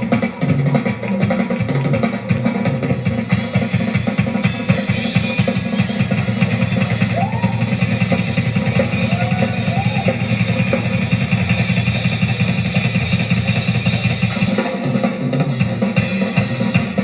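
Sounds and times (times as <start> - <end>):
fast drumming with cymbals: 0.0 - 17.0
rock band music: 0.0 - 17.0.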